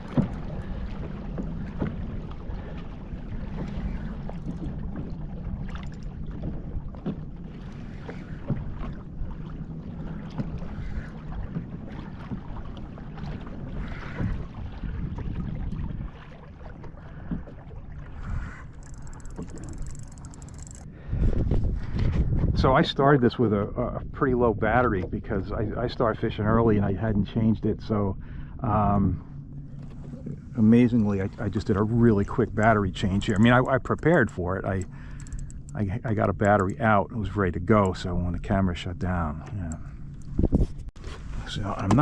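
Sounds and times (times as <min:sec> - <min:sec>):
water and wind rumble: 0:00.0 - 0:42.0.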